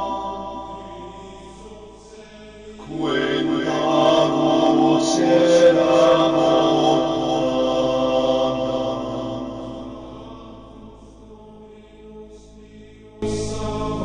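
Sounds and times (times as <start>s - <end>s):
choir chanting droning chords: 0.0s - 14.0s.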